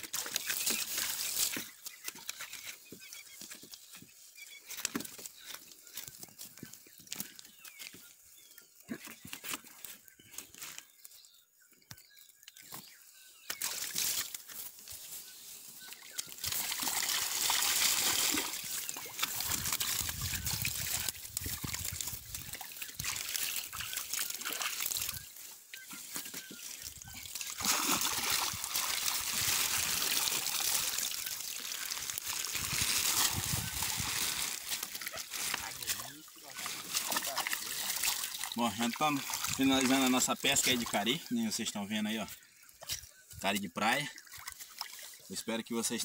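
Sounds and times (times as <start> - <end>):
water sloshing and trickling: 0.0 - 6.5, 13.6 - 46.0.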